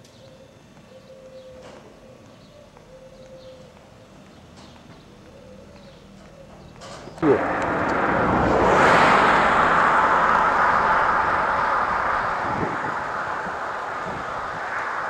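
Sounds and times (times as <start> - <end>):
road vehicle tyres and engine: 1.7 - 15.0.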